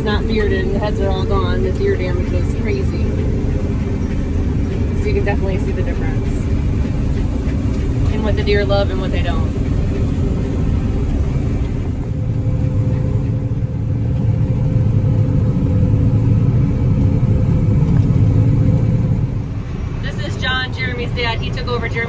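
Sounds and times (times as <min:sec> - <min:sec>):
combine harvester engine rumble: 0:00.0 - 0:22.0.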